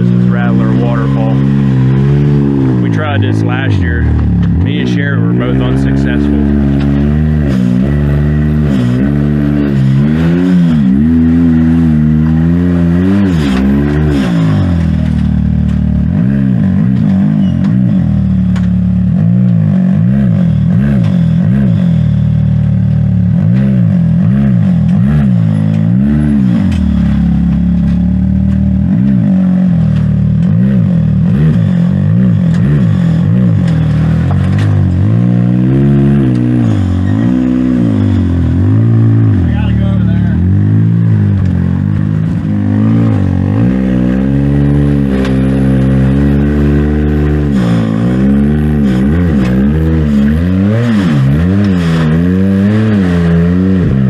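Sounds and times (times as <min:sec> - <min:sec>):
utv engine revving: 0:00.0 - 0:54.0.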